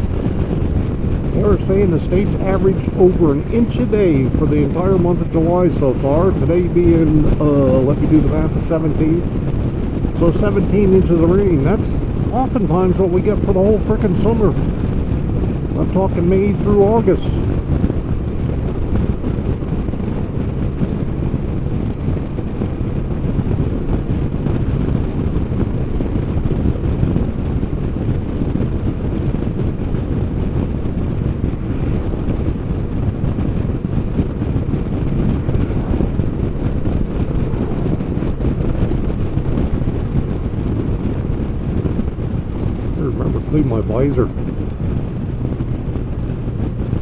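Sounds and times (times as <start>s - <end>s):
motorcycle engine running: 0.0s - 47.0s
wind rush on microphone: 0.0s - 47.0s.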